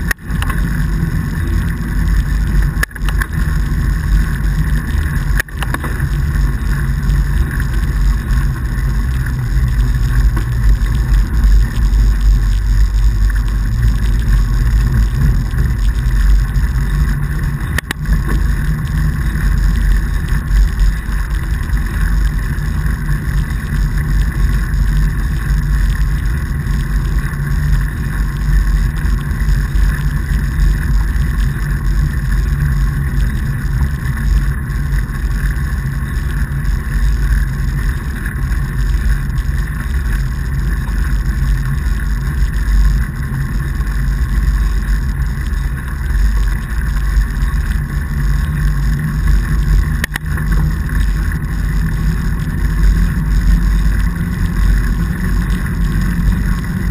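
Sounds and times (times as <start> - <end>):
bike tyres rolling over snow: 0.0 - 56.9
wind noise on microphone: 0.0 - 56.9.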